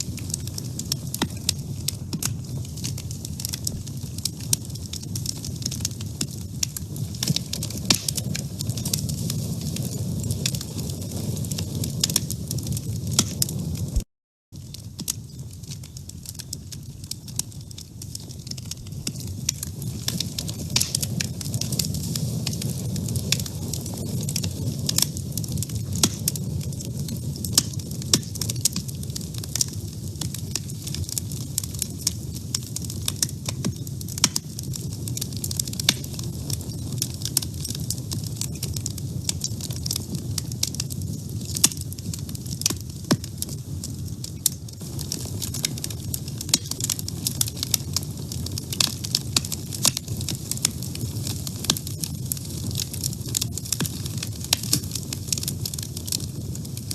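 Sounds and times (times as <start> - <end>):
low rumble of flame: 0.0 - 14.0, 14.6 - 56.9
wood fire crackling and popping: 0.0 - 56.9.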